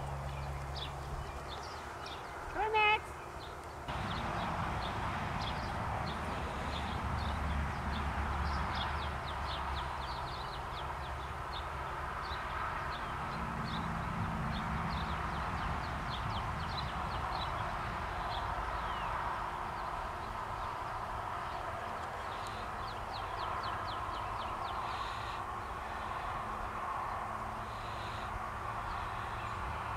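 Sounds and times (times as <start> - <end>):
small birds chirping: 0.1 - 13.9, 14.5 - 26.4.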